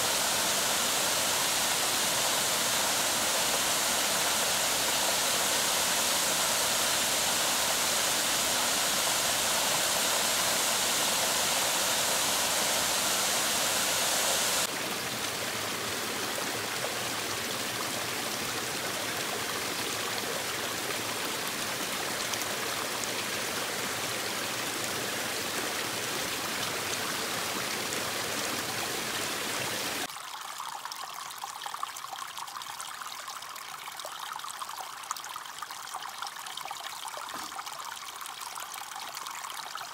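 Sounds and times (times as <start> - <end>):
small waterfall splashing: 0.0 - 39.9
stream running over rocks: 0.0 - 39.9
water trickling and dripping: 0.0 - 39.9.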